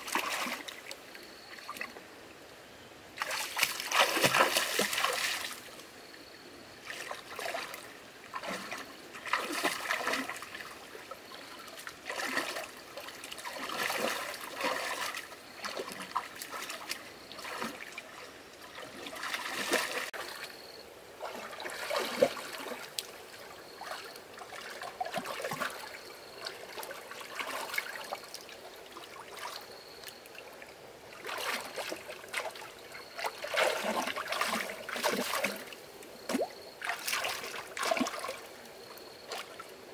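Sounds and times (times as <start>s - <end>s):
water splashing and trickling: 0.0s - 2.1s, 3.2s - 39.9s.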